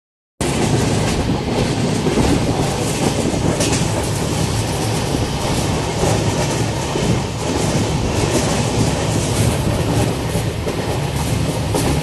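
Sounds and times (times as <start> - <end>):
train wheels on rails: 0.4 - 12.0.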